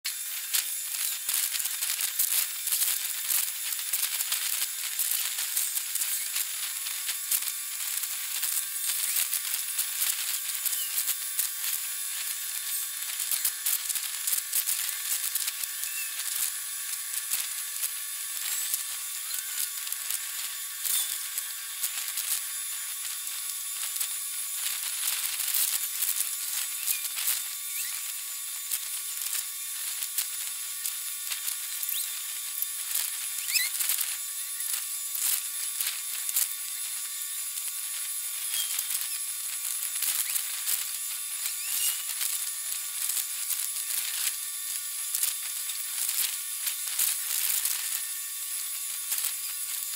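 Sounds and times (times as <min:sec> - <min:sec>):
sped up high-pitched hiss and crackle: 0:00.1 - 0:49.9.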